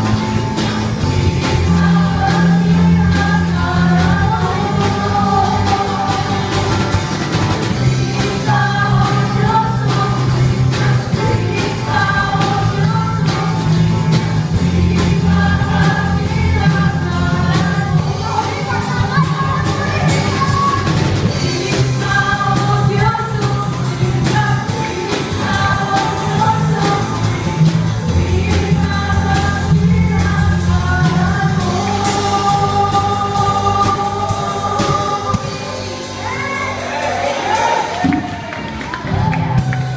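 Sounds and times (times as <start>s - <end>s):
group singing upbeat song: 0.0s - 38.2s
amplified accompaniment with beat: 0.0s - 39.9s.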